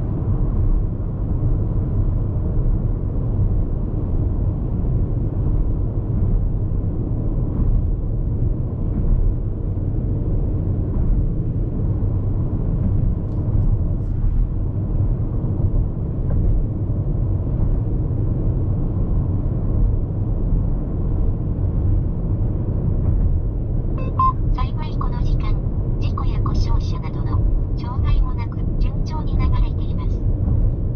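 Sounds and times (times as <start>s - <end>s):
wind noise: 0.0s - 30.9s.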